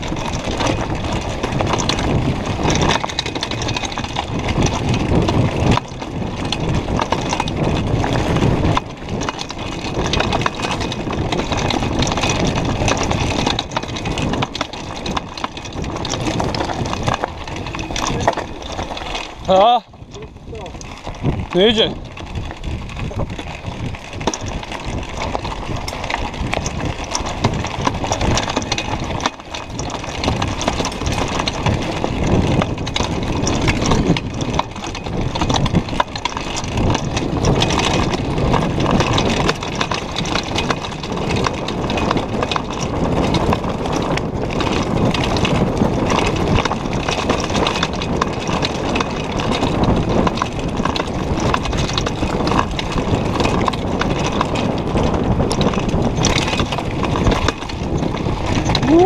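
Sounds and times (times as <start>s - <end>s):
bike frame and chain jolting: 0.0s - 59.0s
bike tyres clattering over stones: 0.0s - 59.0s.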